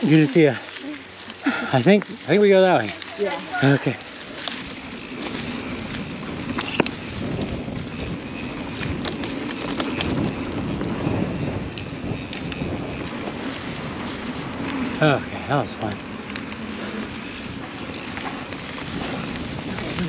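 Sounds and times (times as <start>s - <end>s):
bike clicks and rattles: 0.0s - 20.0s
bike tyres rolling over dirt: 0.0s - 20.0s
wind on microphone: 3.4s - 20.0s.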